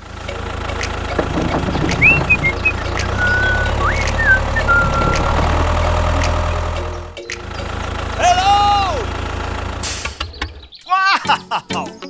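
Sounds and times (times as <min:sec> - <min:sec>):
toy tractor engine rumble: 0:00.0 - 0:10.7.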